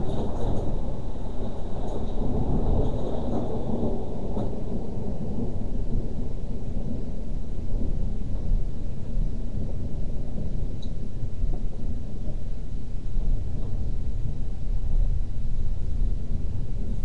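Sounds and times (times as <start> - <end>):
faint raindrop ticks: 0.0 - 15.2
falling rain: 0.0 - 17.0
low rumble of thunder: 0.0 - 17.0.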